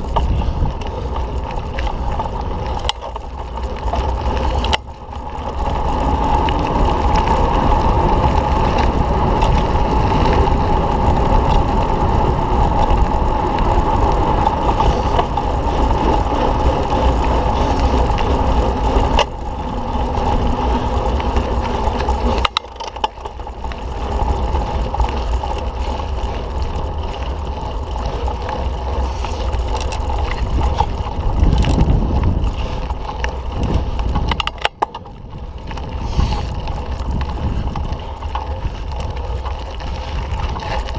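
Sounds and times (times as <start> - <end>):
bike tyres rumbling on dirt: 0.0 - 40.9
wind buffeting microphone: 0.0 - 40.9.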